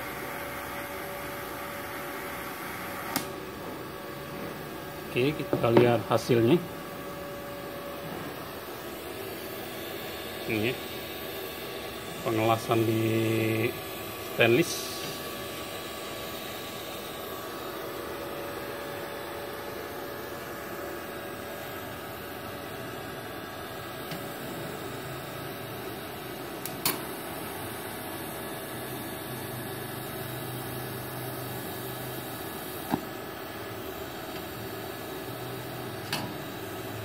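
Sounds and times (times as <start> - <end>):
cooling fan running: 0.0 - 37.0
welder hum and hiss: 0.0 - 37.0.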